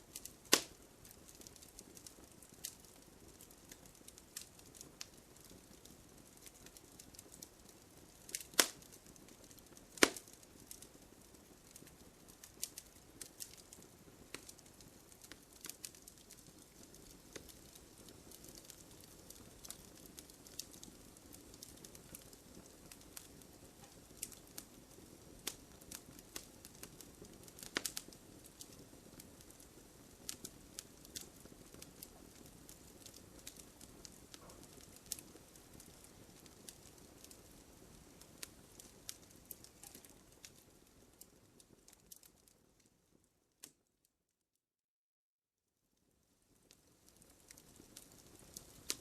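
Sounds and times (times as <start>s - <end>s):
bonfire popping and snapping: 0.0s - 43.9s, 46.5s - 49.0s
soft hiss of flames: 0.0s - 43.9s, 45.9s - 49.0s.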